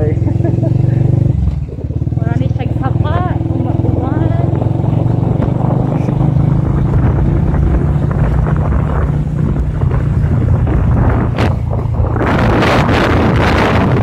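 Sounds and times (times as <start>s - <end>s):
motorcycle engine running: 0.0s - 14.0s
wind on microphone: 1.0s - 14.0s.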